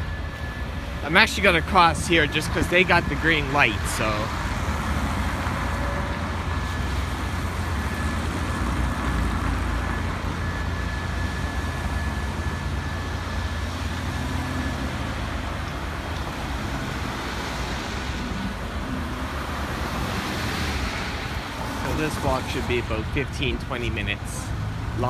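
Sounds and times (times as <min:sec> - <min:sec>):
cars driving past: 0:00.0 - 0:25.0
cars idling: 0:00.0 - 0:25.0.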